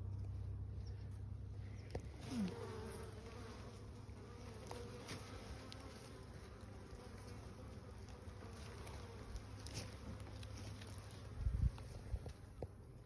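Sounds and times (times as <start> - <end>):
honeybees buzzing: 1.9 - 12.7.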